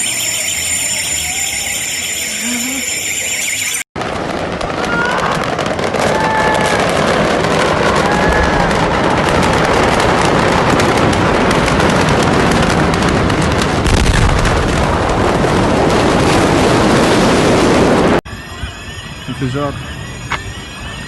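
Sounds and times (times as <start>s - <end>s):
crackling and popping fire: 0.0s - 18.2s.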